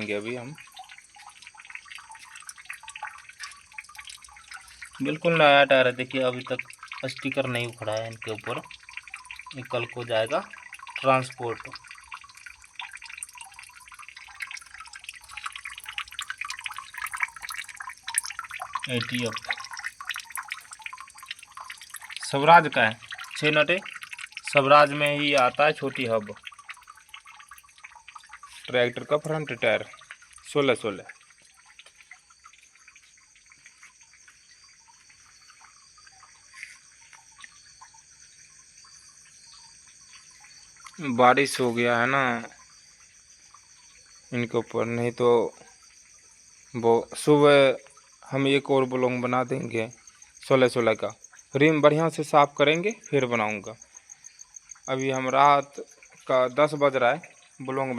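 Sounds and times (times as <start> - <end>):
insects chirring: 0.0 - 57.9
water dripping: 0.0 - 57.9.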